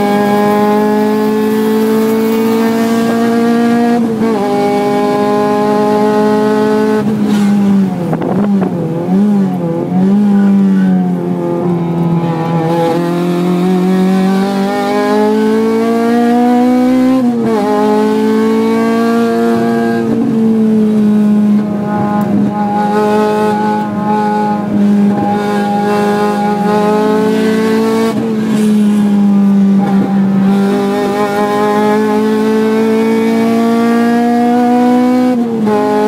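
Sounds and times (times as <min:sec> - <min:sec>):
car engine at high revs: 0:00.0 - 0:36.0.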